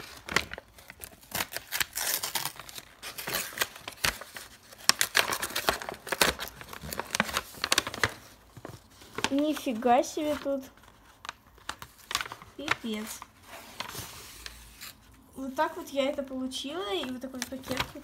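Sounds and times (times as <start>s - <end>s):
packaging rustling and crinkling: 0.0s - 18.0s.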